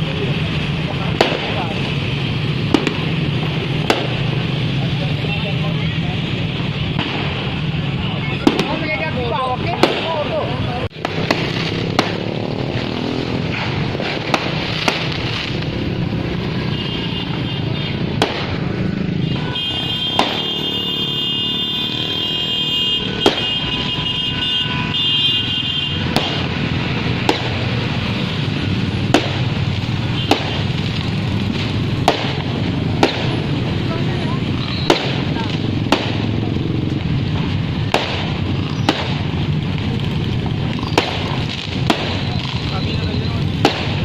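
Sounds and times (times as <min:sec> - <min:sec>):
fireworks banging: 0:00.0 - 0:44.0
outdoor din: 0:00.0 - 0:44.0.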